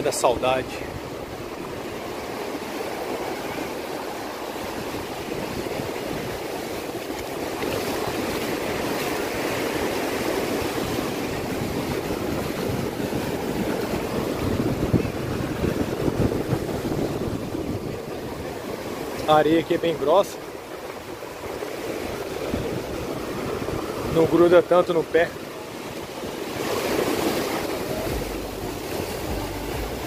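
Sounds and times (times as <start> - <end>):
wind buffeting microphone: 0.0 - 24.4
surf washing onto beach: 0.0 - 30.0.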